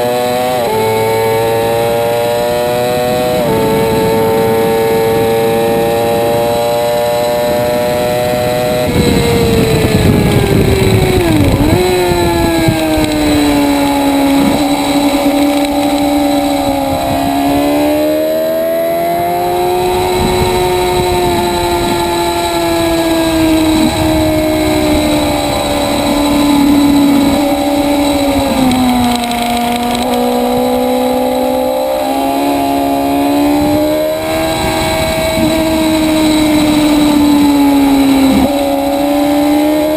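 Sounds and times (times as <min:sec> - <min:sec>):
motorcycle engine at high revs: 0:00.0 - 0:39.9
wind on microphone: 0:00.0 - 0:39.9.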